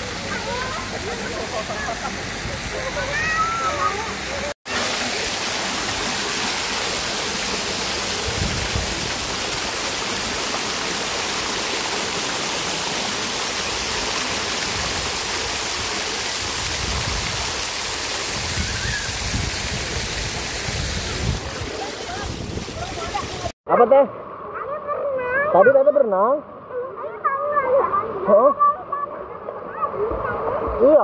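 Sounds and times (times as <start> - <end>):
waterfall splashing into pool: 0.0 - 25.5.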